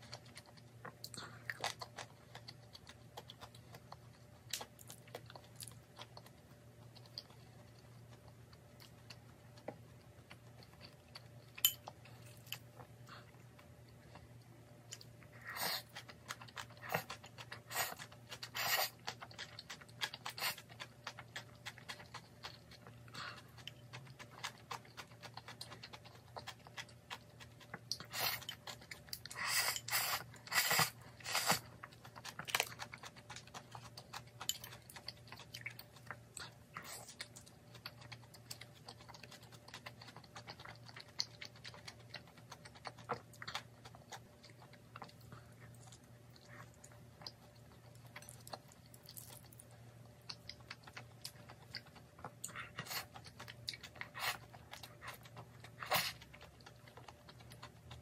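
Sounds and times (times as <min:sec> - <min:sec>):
wet chewing of noodles: 0:00.0 - 0:58.0.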